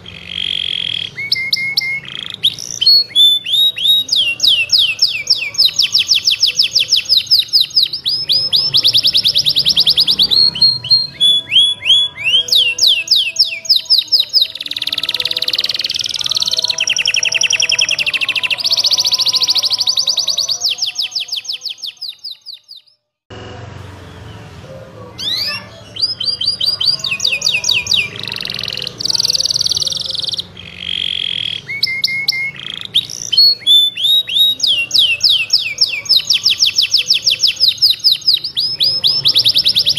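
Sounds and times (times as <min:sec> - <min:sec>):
canary singing trills: 0:00.0 - 0:23.0, 0:23.9 - 0:39.9.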